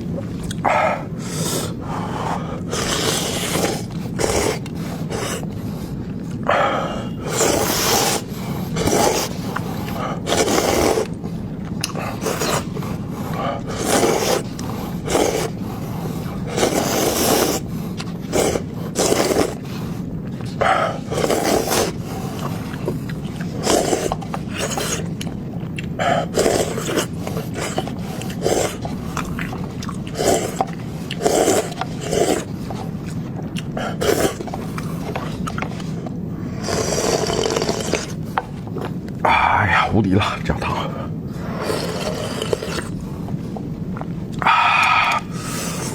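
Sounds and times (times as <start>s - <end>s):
wet chewing and mouth smacking: 0.0s - 6.5s, 7.2s - 39.6s, 41.5s - 45.9s.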